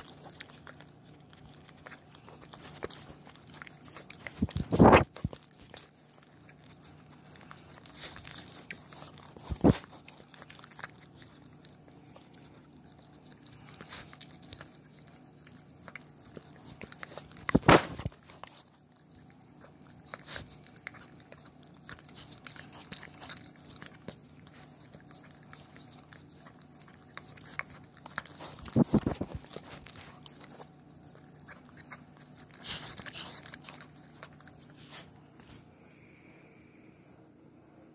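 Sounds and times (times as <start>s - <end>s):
puppy licking and smacking: 0.0s - 35.7s.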